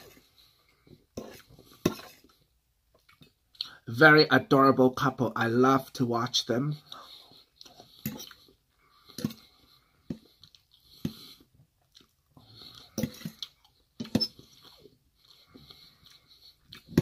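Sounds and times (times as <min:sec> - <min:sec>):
person chewing food: 0:00.0 - 0:03.8, 0:06.8 - 0:17.0.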